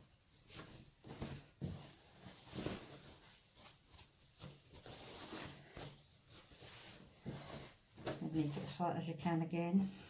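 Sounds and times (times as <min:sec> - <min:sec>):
fabric rustling: 0:00.0 - 0:10.0.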